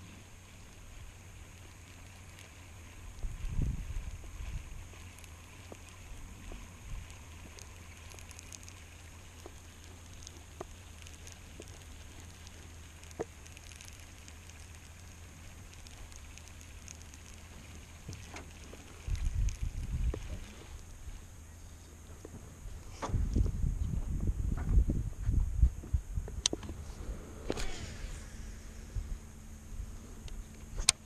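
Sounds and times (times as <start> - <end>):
light ticks and crackles: 0.0 - 31.0
wind rumble on microphone: 0.0 - 31.0.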